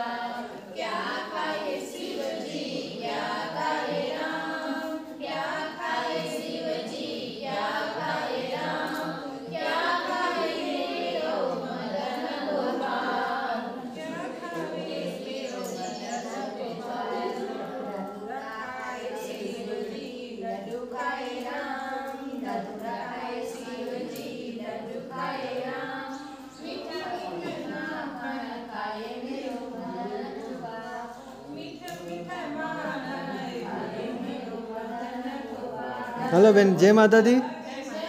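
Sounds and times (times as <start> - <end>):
women singing devotional song: 0.0 - 38.0.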